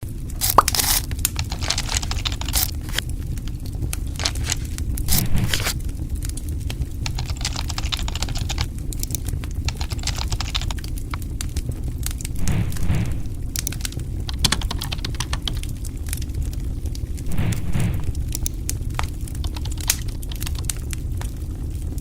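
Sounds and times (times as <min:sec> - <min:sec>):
steady low flame rumble: 0:00.0 - 0:22.0
fruit skin crackling and popping: 0:00.2 - 0:12.4, 0:13.3 - 0:17.3, 0:17.9 - 0:21.3.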